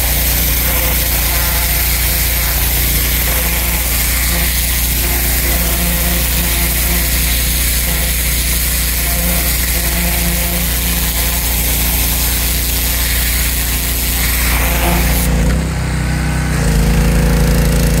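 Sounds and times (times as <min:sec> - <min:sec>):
water spray hissing on brick: 0:00.0 - 0:15.5
pressure washer running: 0:00.0 - 0:18.0.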